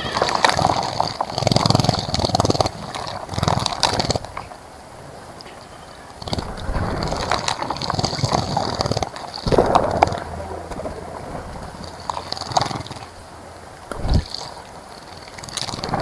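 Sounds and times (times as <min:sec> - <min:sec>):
birds splashing in water: 0:00.0 - 0:16.0.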